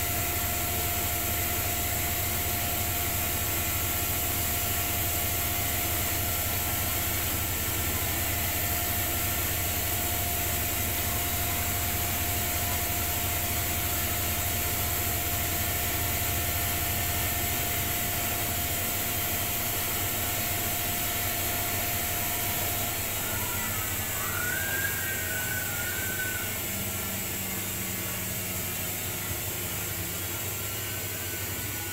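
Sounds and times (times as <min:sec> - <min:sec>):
washing machine spinning: 0:00.0 - 0:31.9.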